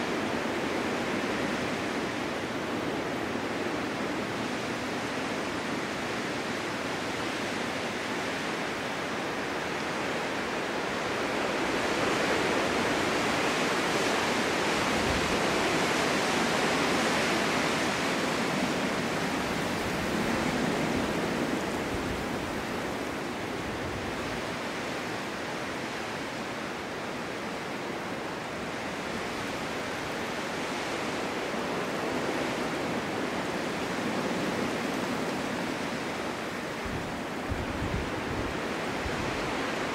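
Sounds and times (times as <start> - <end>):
snowstorm wind rushing: 7.9 - 39.9.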